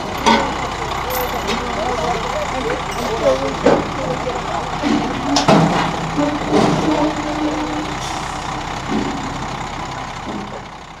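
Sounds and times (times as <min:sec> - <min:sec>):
motorhome engine running: 0:00.0 - 0:11.0.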